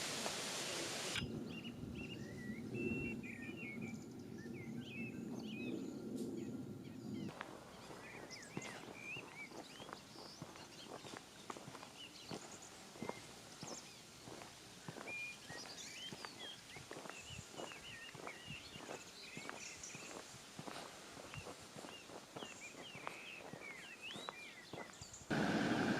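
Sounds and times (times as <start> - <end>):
small birds chirping: 1.0 - 25.9.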